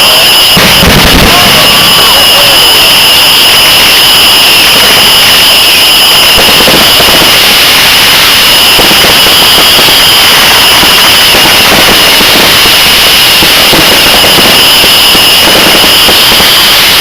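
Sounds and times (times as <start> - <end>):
fireworks crackling: 0.0 - 17.0
fireworks hissing: 0.0 - 17.0.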